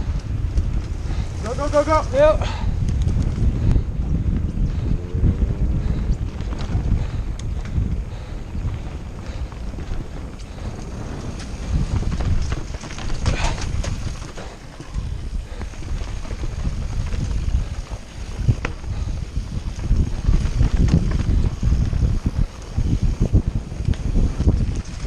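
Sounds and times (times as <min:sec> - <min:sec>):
mountain bike rattling over rough ground: 0:00.0 - 0:25.0
wind buffeting microphone: 0:00.0 - 0:25.0.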